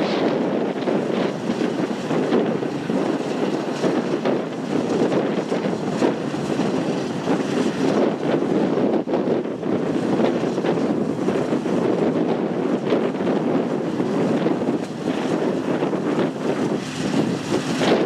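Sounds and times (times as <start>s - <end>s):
combine harvester running: 0.0s - 18.0s
wind buffeting microphone: 0.0s - 18.0s.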